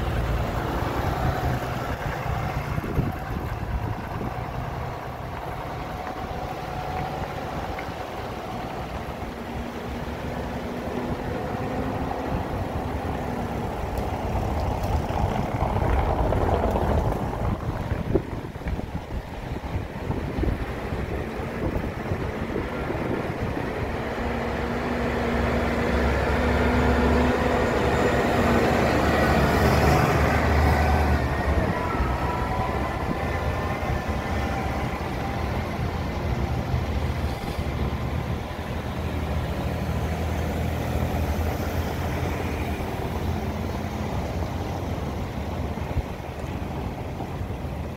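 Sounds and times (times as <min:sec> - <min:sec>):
vehicle engines passing: 0:00.0 - 0:47.9.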